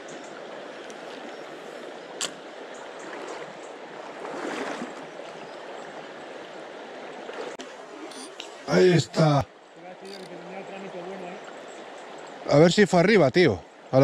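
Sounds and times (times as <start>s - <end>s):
fast-flowing river rushing: 0.0s - 12.8s.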